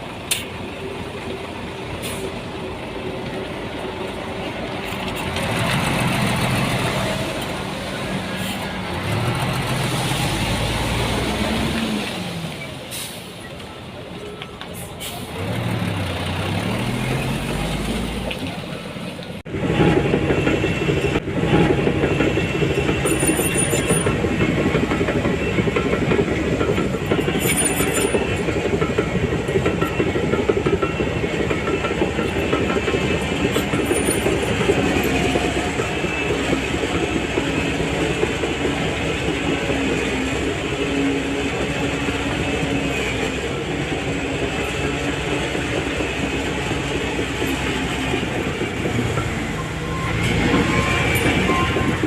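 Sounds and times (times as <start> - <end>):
diesel bulldozer engine: 0.0 - 52.0
crawler tracks clanking: 0.3 - 52.0.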